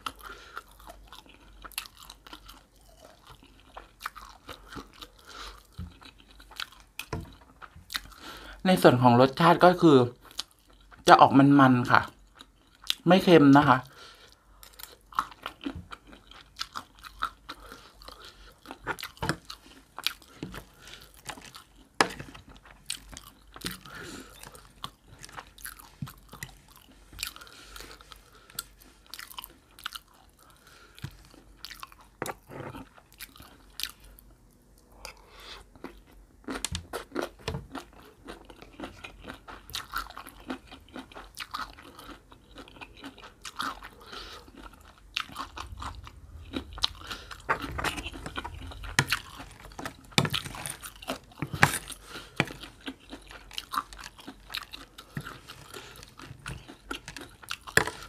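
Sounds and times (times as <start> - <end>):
chewing and crunching salad: 0.0 - 58.0.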